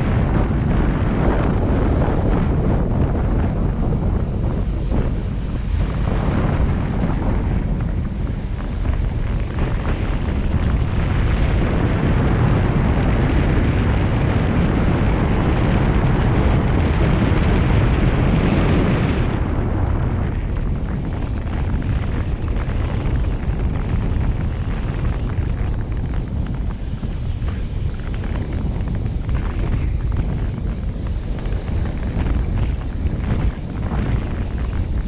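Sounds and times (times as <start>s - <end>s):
car road noise low rumble: 0.0s - 35.0s
tyres and wind hissing: 0.0s - 35.0s.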